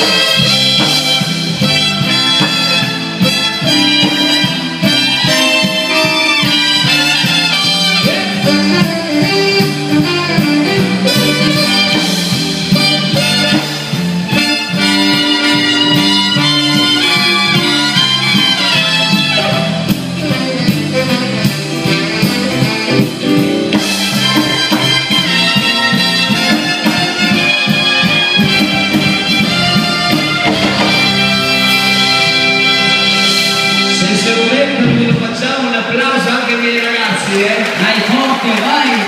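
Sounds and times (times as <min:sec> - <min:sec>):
brass-like lead line: 0:00.0 - 0:35.7
electric guitars: 0:00.0 - 0:35.9
drums: 0:00.0 - 0:39.0
keyboards: 0:00.0 - 0:39.0.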